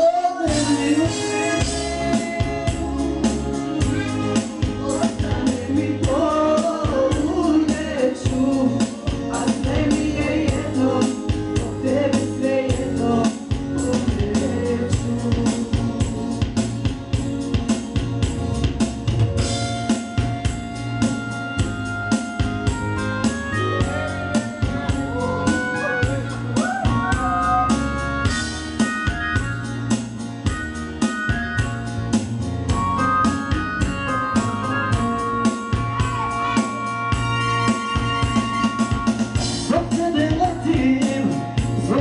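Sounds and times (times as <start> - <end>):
electronic keyboard organ melody: 0.0 - 42.0
keyboard drum rhythm: 0.0 - 42.0.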